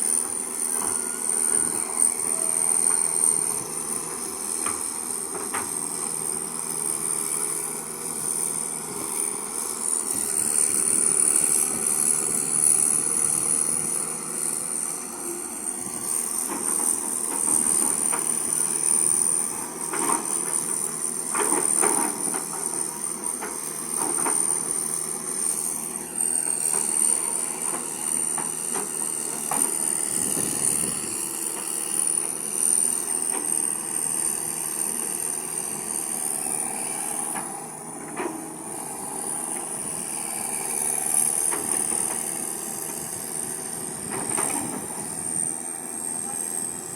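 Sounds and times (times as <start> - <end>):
excavator engine and hydraulics: 0.0 - 46.9.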